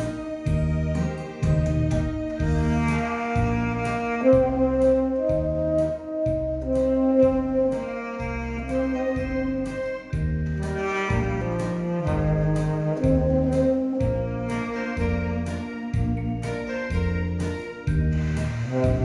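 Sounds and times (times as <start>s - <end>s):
backing track with bass beat: 0.0s - 19.0s
tenor saxophone melody: 0.0s - 19.0s.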